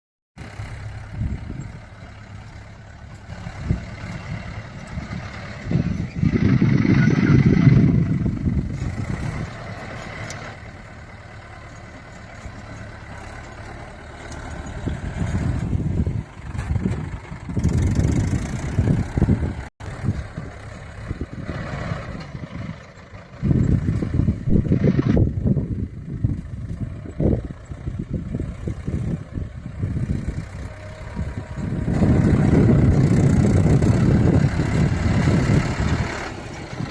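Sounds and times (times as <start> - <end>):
tractor diesel engine running: 0.4 - 36.9.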